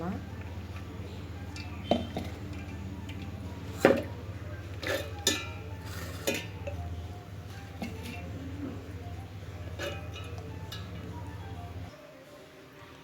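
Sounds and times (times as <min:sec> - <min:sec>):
steel kitchenware clinking: 0:00.1 - 0:11.9.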